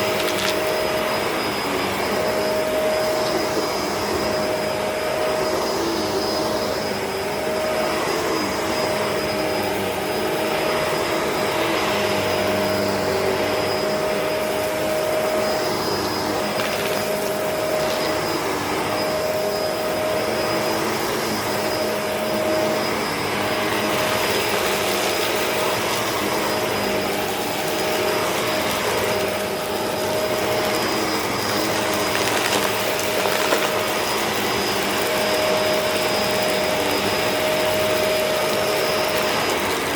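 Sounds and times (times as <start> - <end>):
upright vacuum running on carpet: 0.0 - 39.9.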